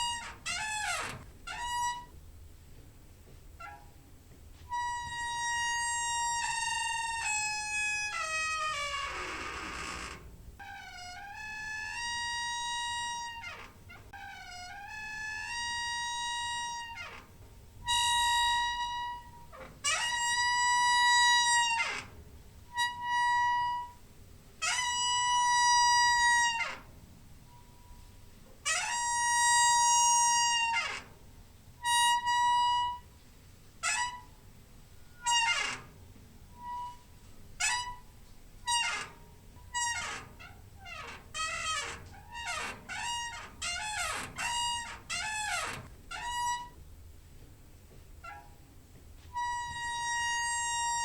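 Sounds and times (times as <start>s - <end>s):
door hinge squeaking: 0.0s - 2.2s, 3.6s - 31.2s, 31.8s - 33.2s, 33.8s - 46.9s, 48.2s - 48.7s, 49.3s - 51.0s.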